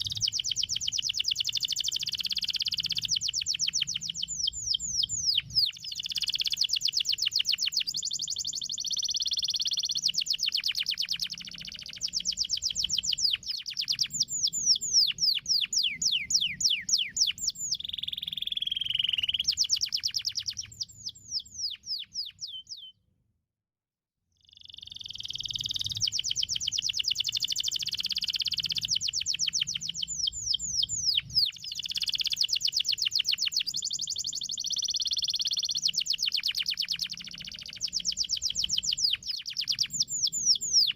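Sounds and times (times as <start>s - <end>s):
canary singing trills: 0.0s - 23.0s, 24.4s - 40.9s.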